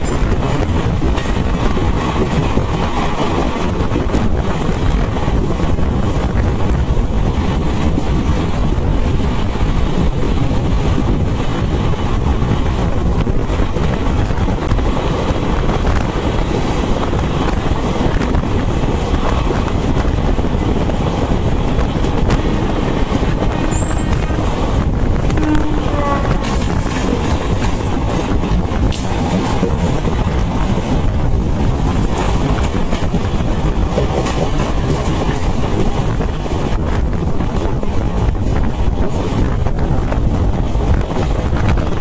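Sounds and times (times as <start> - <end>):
wheels rumbling on track: 0.0 - 42.0
wind rushing over microphone: 0.0 - 42.0.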